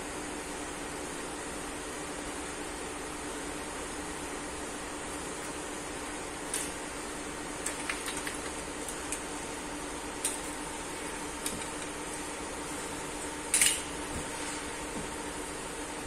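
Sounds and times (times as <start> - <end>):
steady background hiss and hum: 0.0 - 16.0.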